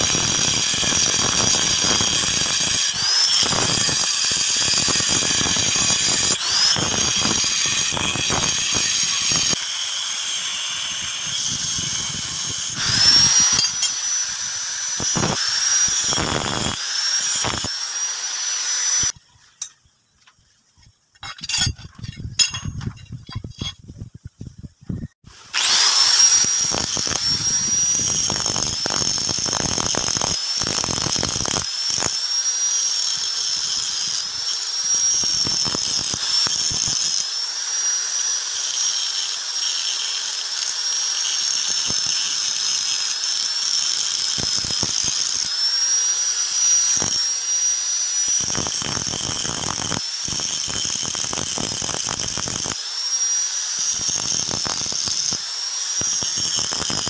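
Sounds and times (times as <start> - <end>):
angle grinder grinding steel: 0.0 - 19.7, 21.2 - 23.8, 25.4 - 57.0.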